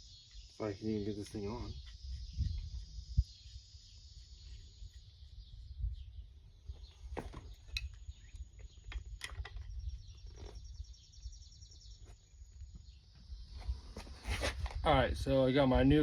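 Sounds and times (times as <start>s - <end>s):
faint bird or insect chirping: 0.0s - 16.0s.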